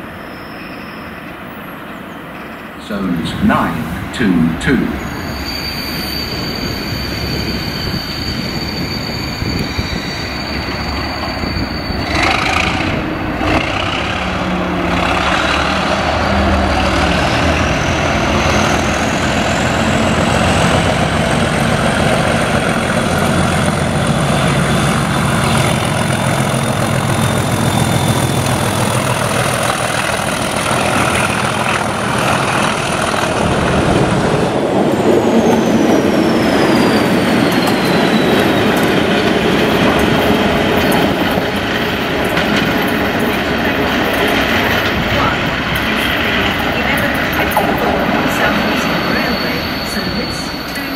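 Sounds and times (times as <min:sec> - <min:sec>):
diesel locomotive engine drone: 0:00.0 - 0:50.9.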